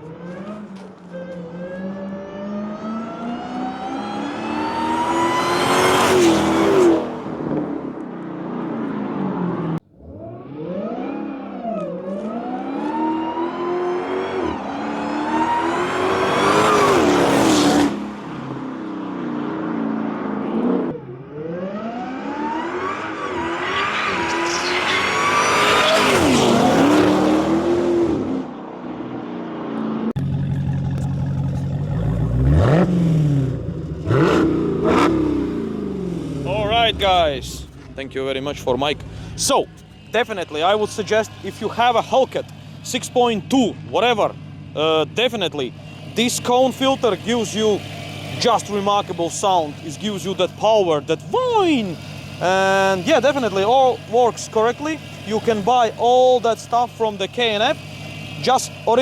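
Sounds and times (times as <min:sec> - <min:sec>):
engine revving: 0:00.0 - 0:59.0
supercharger whine: 0:00.0 - 0:59.0.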